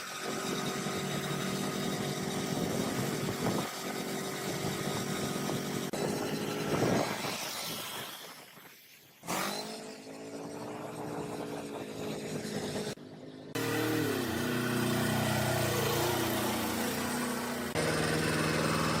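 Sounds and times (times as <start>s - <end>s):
tractor diesel engine running: 0.0s - 6.7s, 10.5s - 19.0s.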